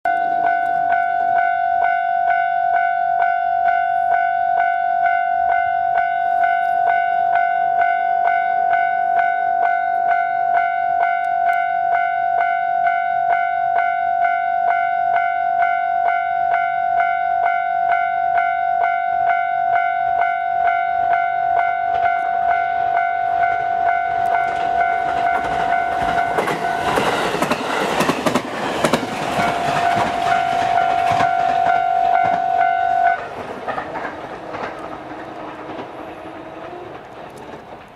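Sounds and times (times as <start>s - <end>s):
level-crossing warning bell: 0.1s - 37.0s
electric train passing: 0.1s - 37.9s.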